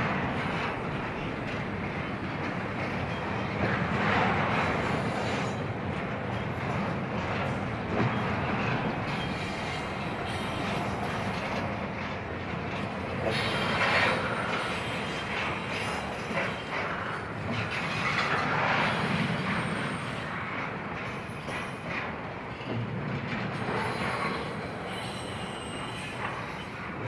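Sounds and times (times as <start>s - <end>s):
freight train wheels clattering: 0.0s - 27.0s.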